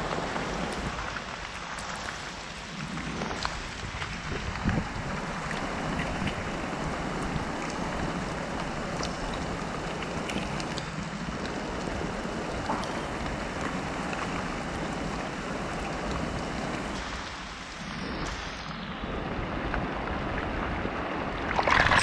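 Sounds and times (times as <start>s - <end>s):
shallow water rushing: 0.0s - 22.0s.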